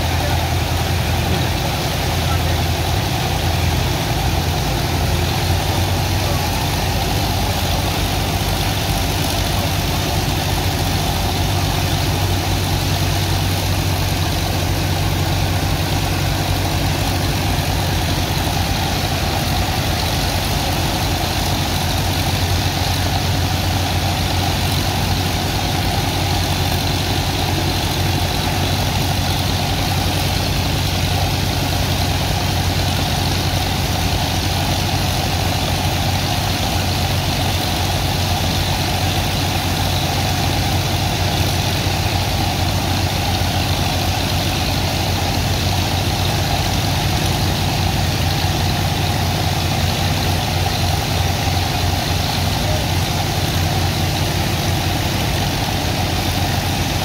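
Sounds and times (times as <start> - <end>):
engine low drone: 0.0 - 57.0
high-pressure water jet hissing: 0.0 - 57.0.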